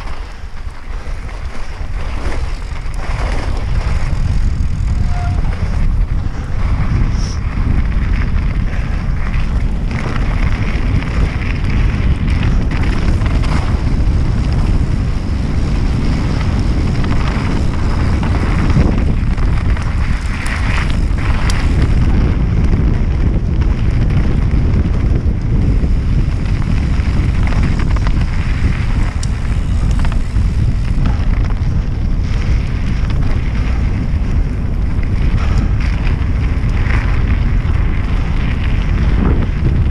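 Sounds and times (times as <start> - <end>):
bike clicks and rattles: 0.0 - 39.9
tyre noise: 0.0 - 39.9
wind buffeting microphone: 0.0 - 39.9.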